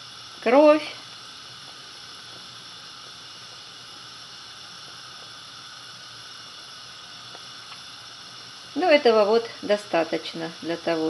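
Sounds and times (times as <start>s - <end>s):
pot boiling and bubbling: 0.0s - 11.0s.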